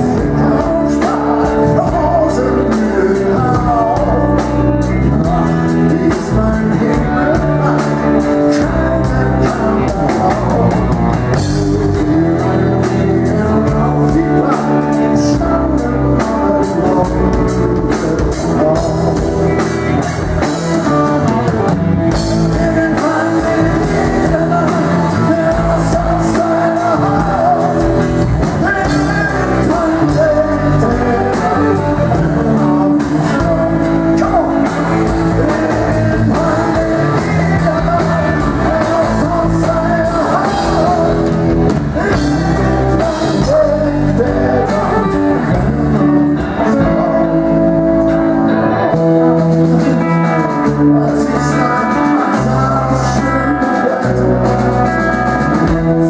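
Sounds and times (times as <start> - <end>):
bass guitar: 0.0 - 56.0
drum kit: 0.0 - 56.0
guitar: 0.0 - 56.0
man singing lead: 0.0 - 56.0.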